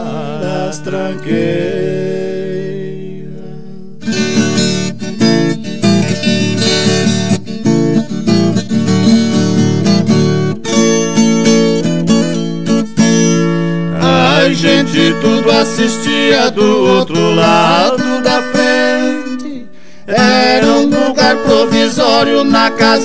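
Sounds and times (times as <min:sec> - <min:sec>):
acoustic guitar instrumental: 0:00.0 - 0:23.0.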